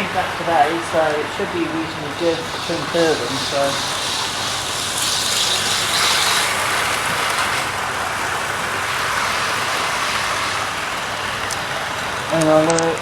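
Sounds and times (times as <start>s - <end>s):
model train motors whirring: 0.0s - 13.0s
wheels on track: 0.0s - 13.0s.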